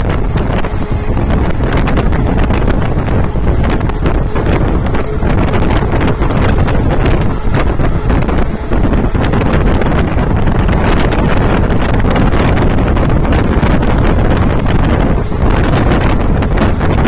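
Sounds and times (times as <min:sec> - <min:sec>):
train rumbling at speed: 0:00.0 - 0:17.0
wind buffeting microphone: 0:00.0 - 0:17.0.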